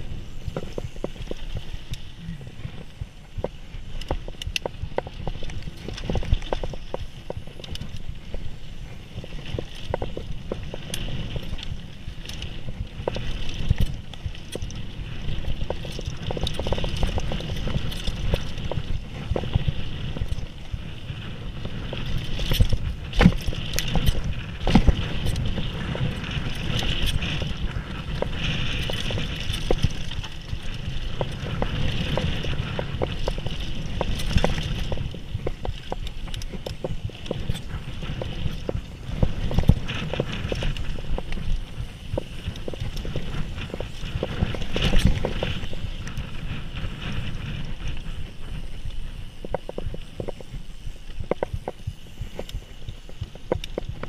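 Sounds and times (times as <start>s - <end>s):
bike knocking and rattling: 0.0s - 54.0s.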